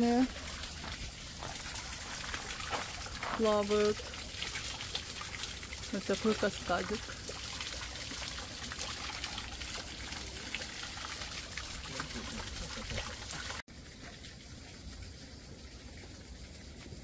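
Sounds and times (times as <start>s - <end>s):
water trickling into a pond: 0.0s - 17.0s.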